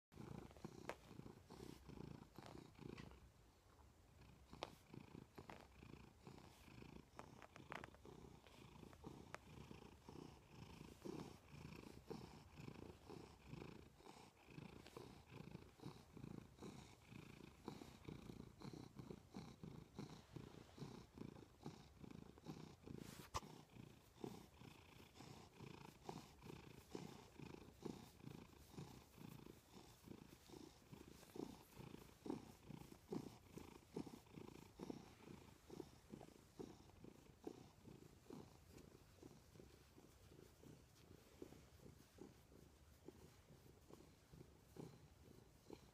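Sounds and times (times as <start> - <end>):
cat purring: 0.1 - 45.9.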